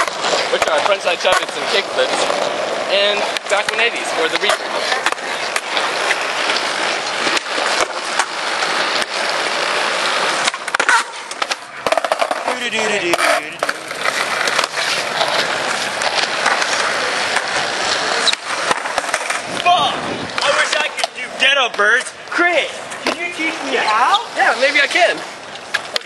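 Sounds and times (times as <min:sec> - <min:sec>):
skateboard clacks and knocks: 0:00.0 - 0:22.1
skateboard wheels rolling on pavement: 0:00.0 - 0:26.0.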